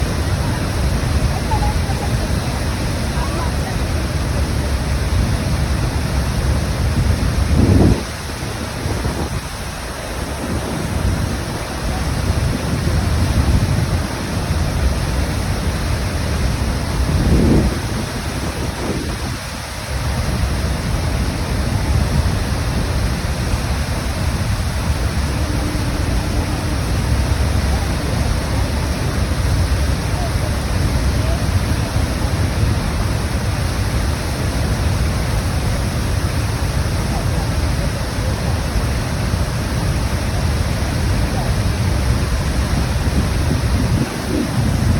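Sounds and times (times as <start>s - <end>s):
waterfall rumble and rush: 0.0s - 44.9s.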